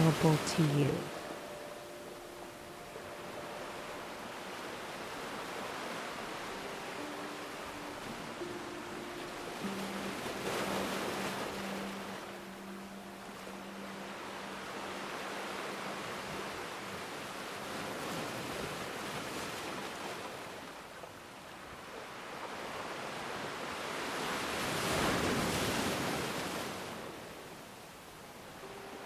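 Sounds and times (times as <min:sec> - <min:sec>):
ocean waves washing onto beach: 0:00.0 - 0:29.0.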